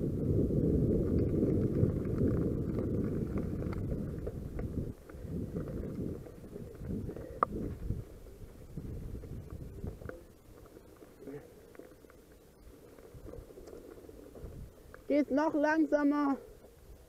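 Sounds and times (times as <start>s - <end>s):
wind buffeting microphone: 0.0s - 11.0s, 12.6s - 17.0s
bike tyres rumbling on path: 0.0s - 17.0s
small gravel clicks: 0.7s - 17.0s.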